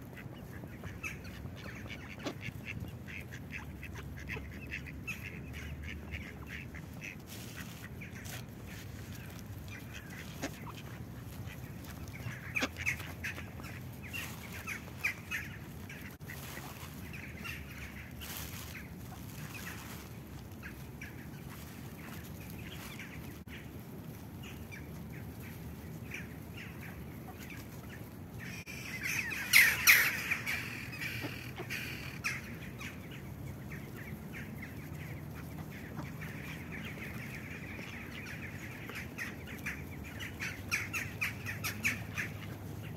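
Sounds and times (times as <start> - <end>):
ducks quacking: 0.0 - 23.8, 24.4 - 42.9.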